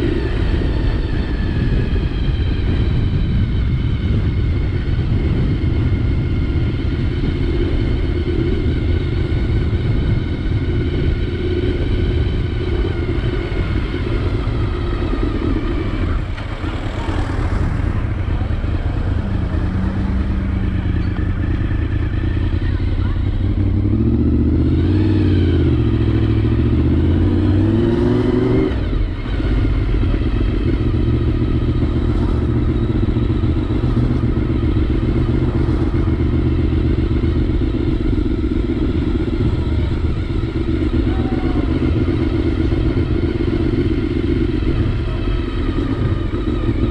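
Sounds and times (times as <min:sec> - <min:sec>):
motorcycle engine running: 0:00.0 - 0:46.9
wind rumbling on microphone: 0:00.0 - 0:46.9.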